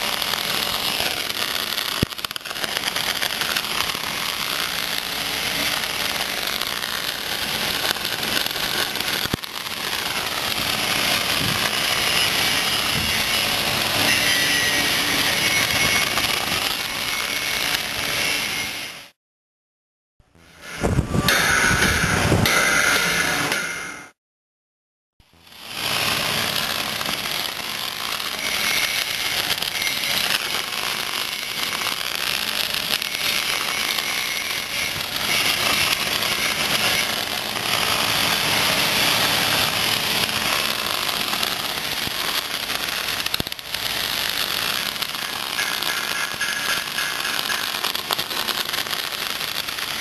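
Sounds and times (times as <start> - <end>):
welding arc crackling: 0.0 - 19.2, 20.4 - 23.8, 25.3 - 50.0.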